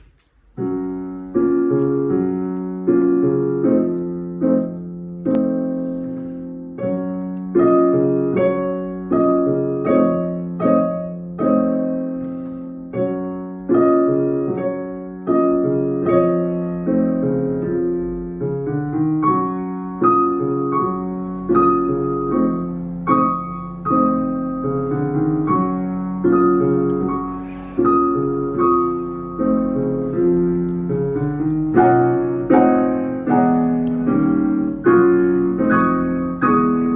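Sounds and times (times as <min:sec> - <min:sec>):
piano chords and notes: 0:00.0 - 0:36.9.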